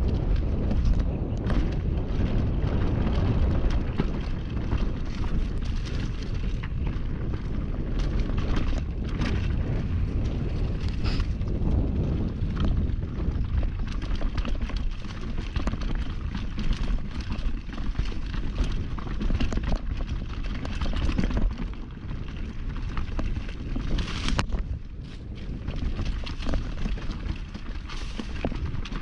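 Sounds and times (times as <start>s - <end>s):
bike tyres knocking and rattling: 0.0s - 29.0s
wind rushing over microphone: 0.0s - 29.0s.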